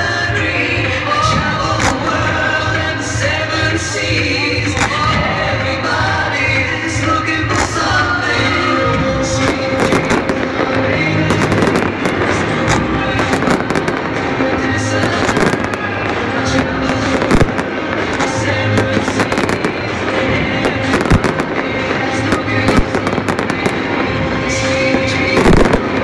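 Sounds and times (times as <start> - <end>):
music playing: 0.0 - 26.0
fireworks bangs and crackles: 0.1 - 26.0.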